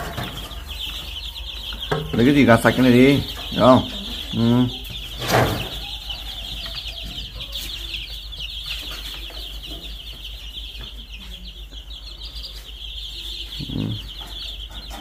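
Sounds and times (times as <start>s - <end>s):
baby chicks cheeping: 0.0s - 15.0s.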